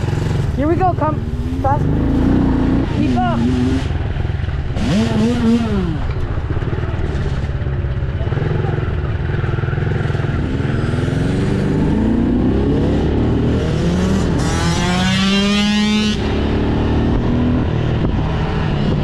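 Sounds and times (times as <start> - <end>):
dirt bike engines accelerating: 0.0 - 19.0.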